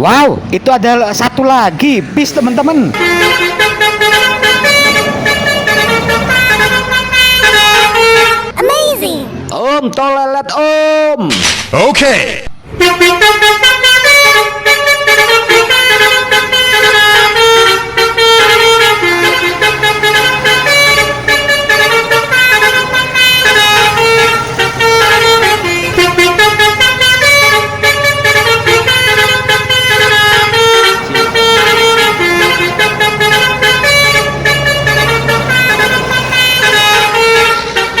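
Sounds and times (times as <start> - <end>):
bus engine humming: 0.0 - 9.8, 12.6 - 38.0
air horn melody: 2.9 - 8.6, 12.7 - 38.0.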